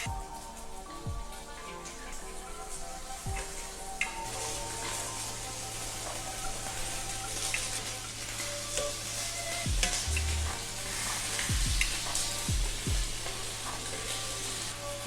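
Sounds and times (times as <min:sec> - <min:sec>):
chicken sizzling in a pan: 0:00.0 - 0:15.0
small crackles: 0:00.0 - 0:15.0.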